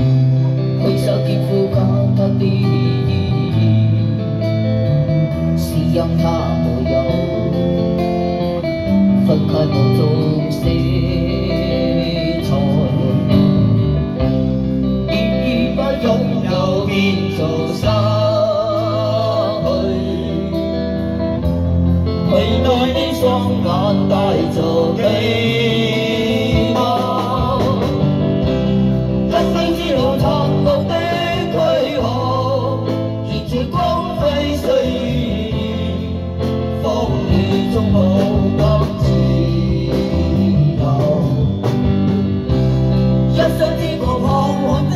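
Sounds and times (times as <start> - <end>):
man singing into microphone: 0.0 - 4.4, 5.3 - 8.1, 9.0 - 13.8, 15.0 - 21.5, 22.1 - 42.0, 43.2 - 44.9
drums: 0.0 - 44.9
electric guitars: 0.0 - 44.9.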